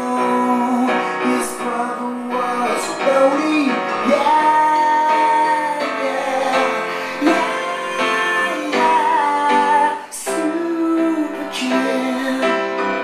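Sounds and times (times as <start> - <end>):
grand piano chords: 0.0 - 13.0
man singing: 0.0 - 13.0.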